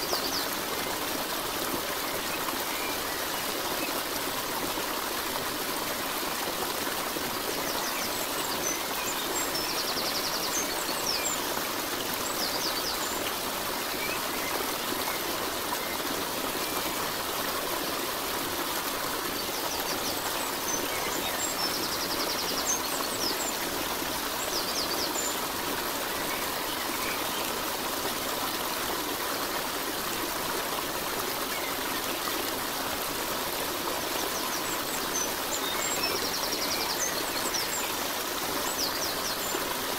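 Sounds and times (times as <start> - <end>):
running stream water: 0.0 - 39.9.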